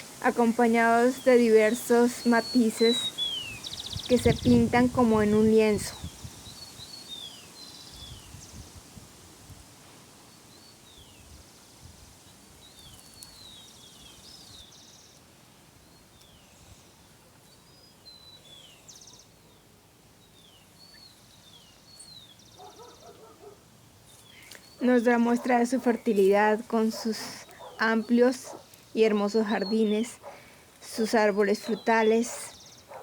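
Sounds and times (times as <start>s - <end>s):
small birds chirping: 0.0s - 8.9s, 12.2s - 33.0s
outdoor hiss: 0.0s - 33.0s.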